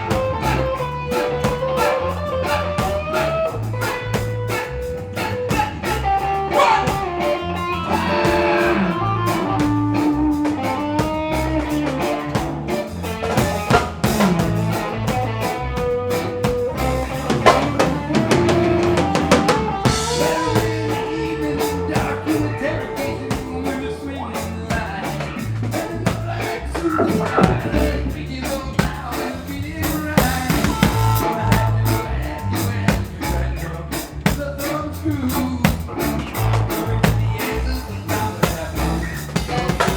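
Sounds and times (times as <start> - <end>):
bass: 0.0 - 39.9
drum kit beat: 0.0 - 39.9
electric guitar lead: 0.0 - 39.9.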